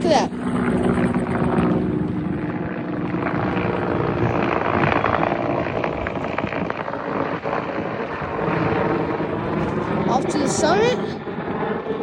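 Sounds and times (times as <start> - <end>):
helicopter rotor and engine: 0.0 - 12.0
wind on microphone: 0.0 - 12.0.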